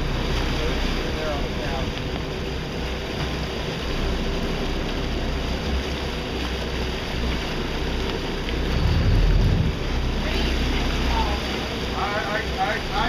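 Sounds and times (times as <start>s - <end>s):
boat engine rumbling: 0.0s - 13.0s
sea noise: 0.0s - 13.0s
wind: 0.0s - 13.0s.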